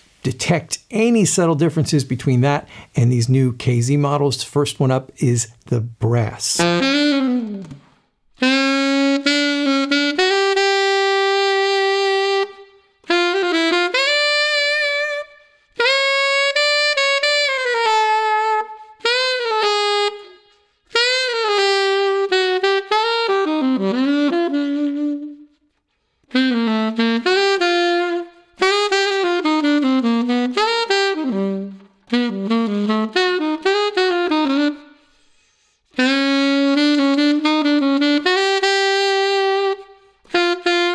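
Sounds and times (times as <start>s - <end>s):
alto saxophone solo: 6.2s - 40.9s.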